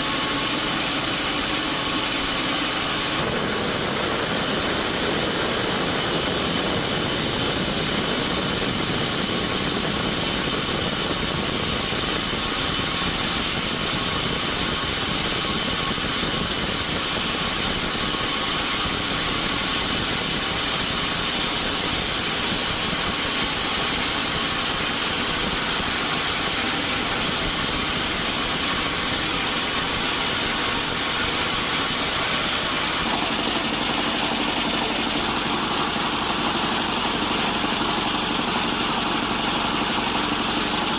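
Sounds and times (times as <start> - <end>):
woodworking machinery droning: 0.0 - 40.9.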